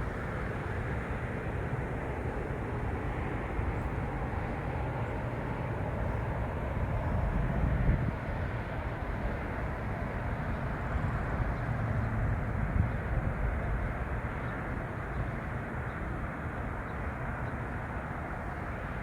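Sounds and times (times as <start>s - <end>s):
outdoor rumble and hiss: 0.0s - 19.0s.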